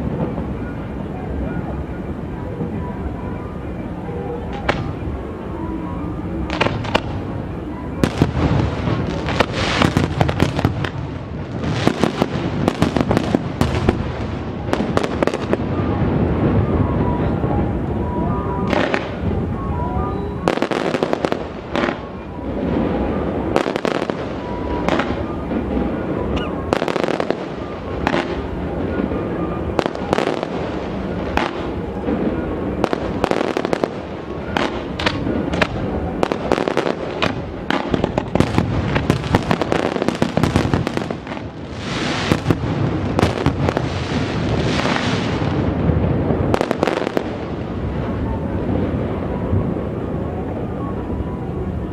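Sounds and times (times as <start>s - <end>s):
fireworks bangs: 0.0s - 51.9s.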